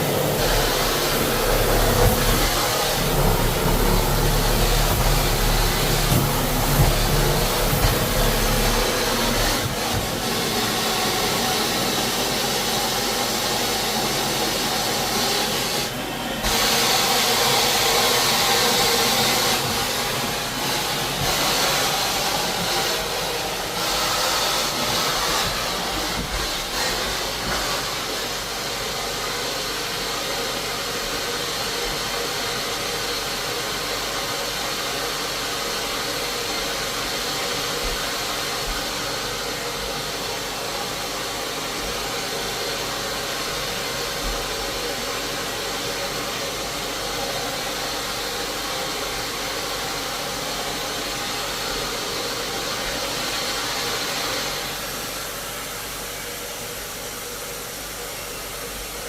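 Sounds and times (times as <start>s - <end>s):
floor-cleaning machine whining: 0.0s - 59.0s.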